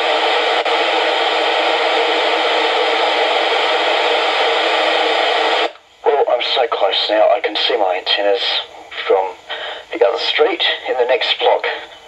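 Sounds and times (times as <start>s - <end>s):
radio receiver hiss: 0.0s - 12.0s.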